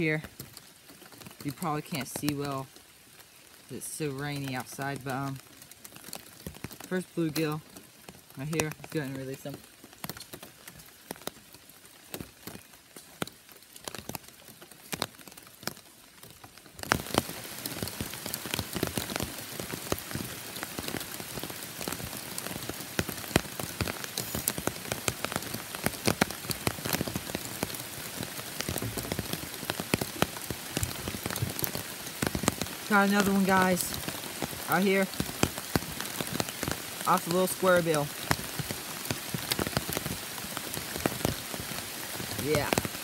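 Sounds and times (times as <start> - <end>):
steady rain: 0.0 - 43.0
drops pattering on an umbrella: 0.2 - 3.7, 5.3 - 43.0.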